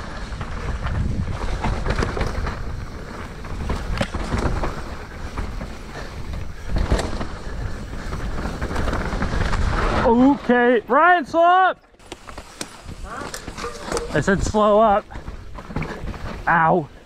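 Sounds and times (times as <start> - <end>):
bike clicks and rattles: 0.0 - 10.9, 11.8 - 17.0
bike tyres rumbling on dirt: 0.0 - 17.0.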